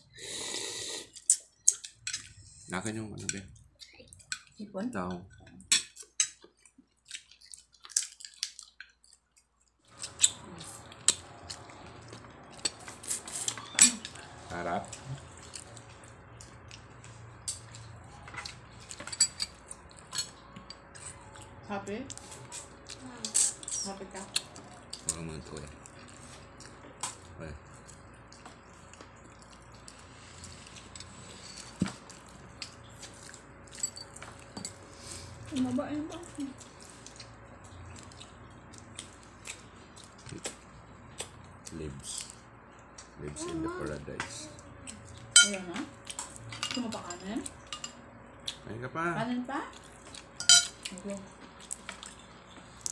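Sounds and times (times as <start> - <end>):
faint steady hum: 0.0 - 52.9
chewing: 5.6 - 43.5, 44.6 - 48.7, 49.6 - 52.9.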